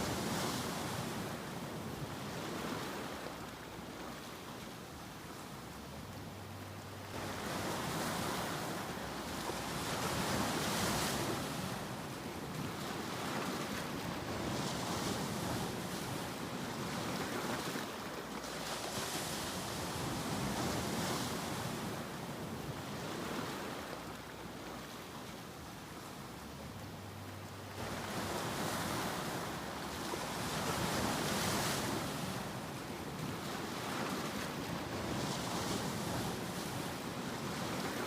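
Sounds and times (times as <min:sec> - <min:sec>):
ocean waves washing in: 0:00.0 - 0:38.0.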